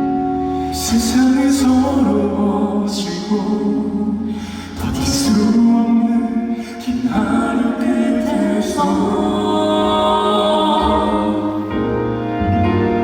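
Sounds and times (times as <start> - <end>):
male vocal quartet singing: 0.5 - 13.0.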